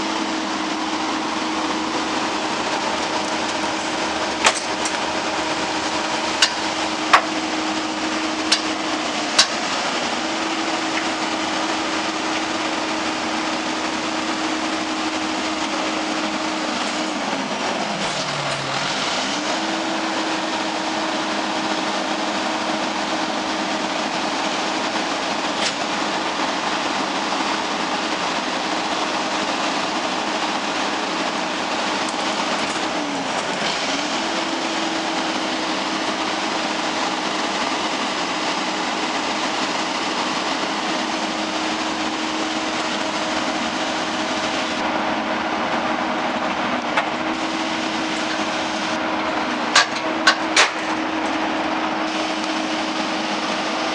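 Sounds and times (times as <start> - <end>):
truck engine mechanical hum: 0.0 - 53.9.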